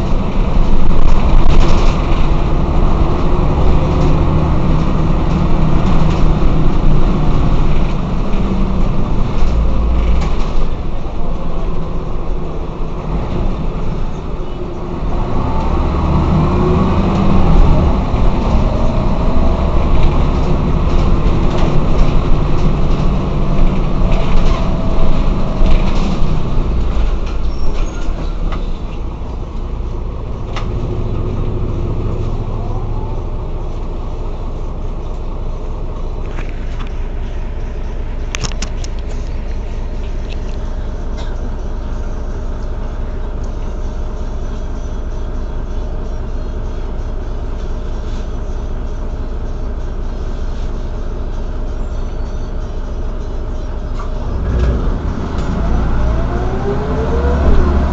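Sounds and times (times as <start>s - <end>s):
bus engine accelerating: 0.0s - 57.9s.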